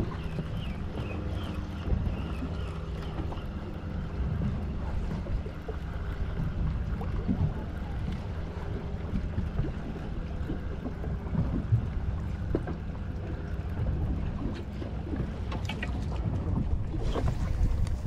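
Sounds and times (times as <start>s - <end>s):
boat engine hum: 0.0s - 18.0s
wind buffeting microphone: 0.0s - 18.0s.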